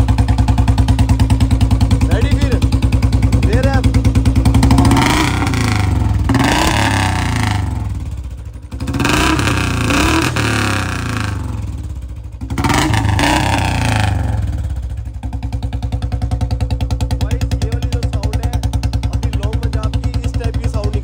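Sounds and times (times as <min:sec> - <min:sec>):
motorcycle engine idling: 0:00.0 - 0:21.0
motorcycle engine revving: 0:00.0 - 0:21.0.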